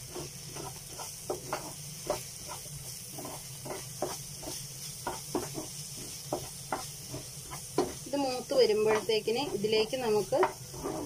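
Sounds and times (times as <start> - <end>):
food sizzling in a pan: 0.0 - 11.0
spatula scraping a pan: 0.0 - 11.0.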